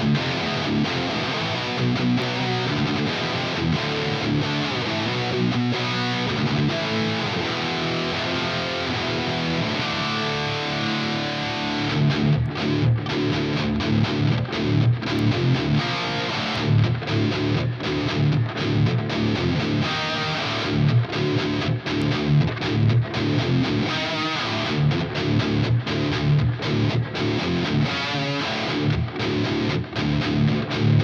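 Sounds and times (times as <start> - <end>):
distorted electric guitar: 0.0 - 31.0.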